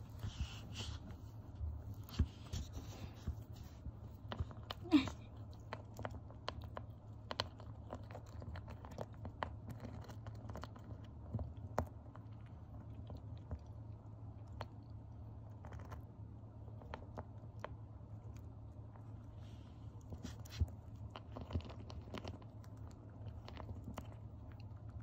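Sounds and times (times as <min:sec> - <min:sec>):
hamster gnawing nut: 0:00.0 - 0:25.0.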